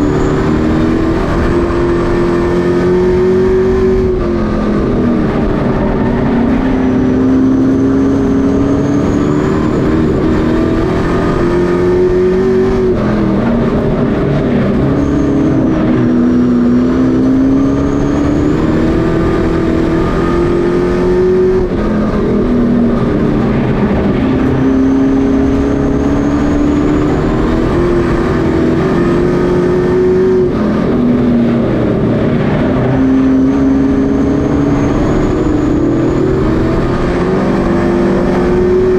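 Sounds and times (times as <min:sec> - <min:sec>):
race truck engines: 0:00.0 - 0:38.9.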